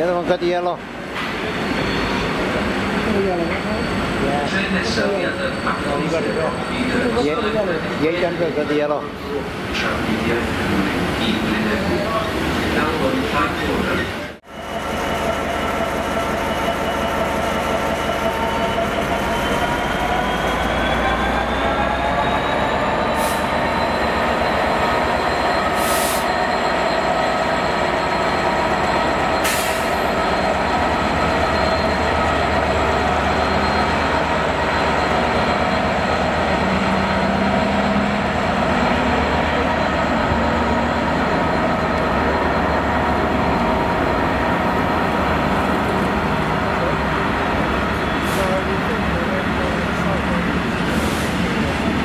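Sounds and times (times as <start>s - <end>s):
diesel locomotive engine: 0.0s - 52.0s
wheels rumbling on rail: 0.0s - 52.0s.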